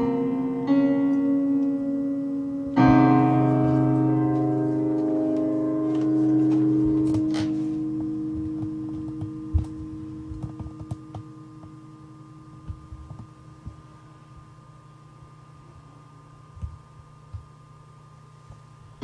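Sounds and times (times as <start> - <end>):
keyboard chord ringing: 0.0 - 15.6.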